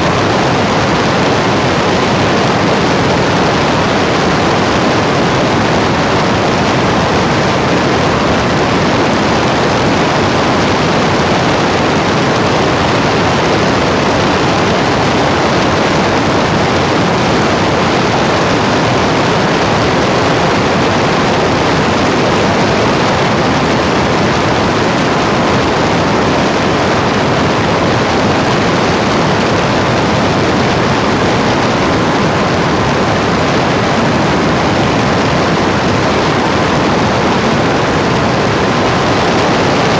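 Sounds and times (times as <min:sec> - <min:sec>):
loud broadband hiss: 0:00.0 - 0:39.9.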